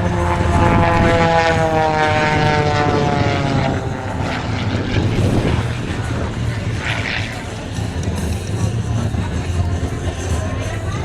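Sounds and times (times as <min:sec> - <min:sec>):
propeller plane flyby: 0:00.0 - 0:11.0.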